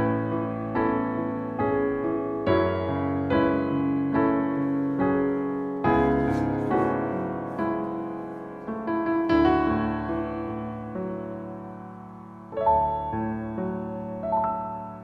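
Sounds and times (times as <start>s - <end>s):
slow soft piano chords: 0.0s - 15.0s.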